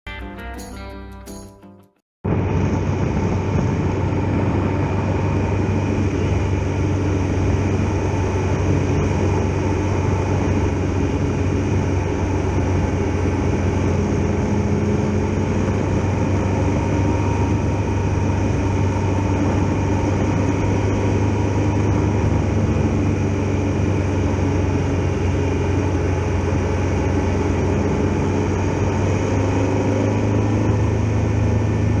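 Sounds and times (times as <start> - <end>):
motorcycle engine droning: 2.3 - 32.0.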